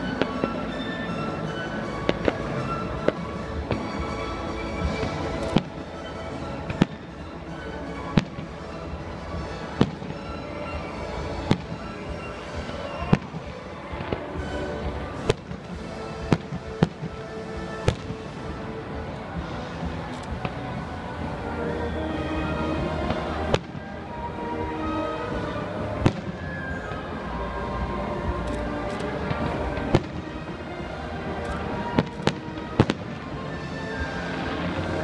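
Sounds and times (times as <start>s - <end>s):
fireworks bursting with sharp bangs: 0.0s - 35.0s
music playing: 0.0s - 35.0s.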